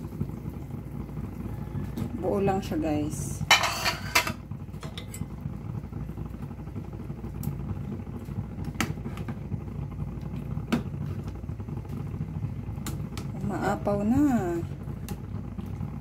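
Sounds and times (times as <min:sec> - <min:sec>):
soup pot boiling: 0:00.0 - 0:16.0.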